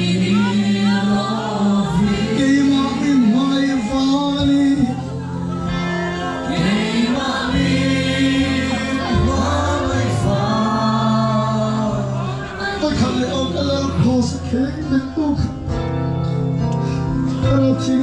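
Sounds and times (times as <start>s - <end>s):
amplified music: 0.0s - 18.0s
crowd singing worship song: 0.0s - 18.0s.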